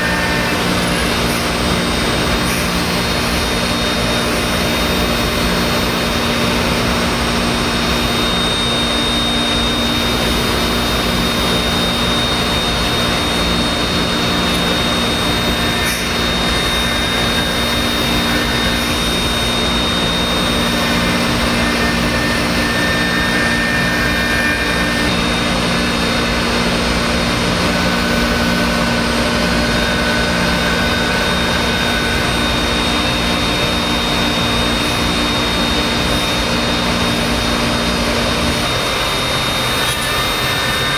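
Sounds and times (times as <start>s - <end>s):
low machine hum: 0.0s - 40.9s
router spindle high whine: 0.0s - 40.9s.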